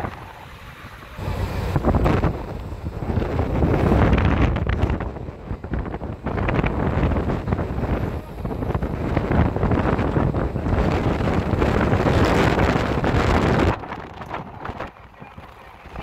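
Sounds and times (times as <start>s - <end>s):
car road noise: 0.0s - 16.0s
wind buffeting microphone: 0.0s - 16.0s.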